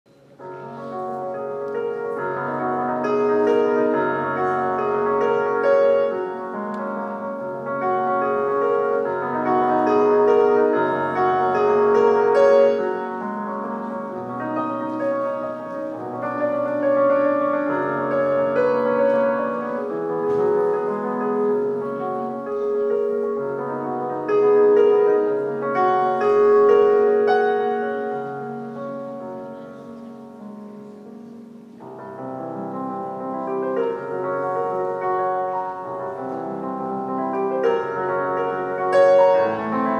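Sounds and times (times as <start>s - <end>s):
digital piano solo: 0.1s - 39.9s.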